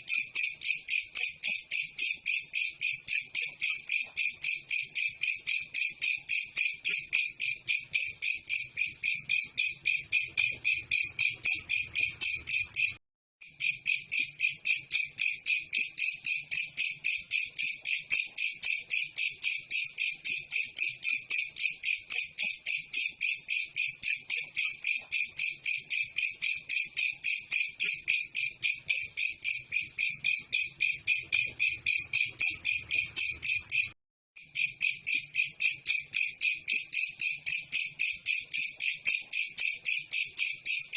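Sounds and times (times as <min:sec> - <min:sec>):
insect chirping rapidly: 0:00.0 - 0:40.9.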